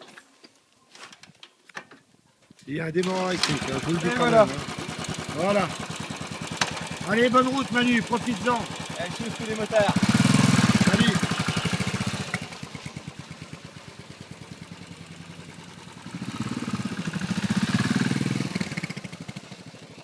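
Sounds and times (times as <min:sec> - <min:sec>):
motorcycle engine riding off: 0:03.0 - 0:20.0.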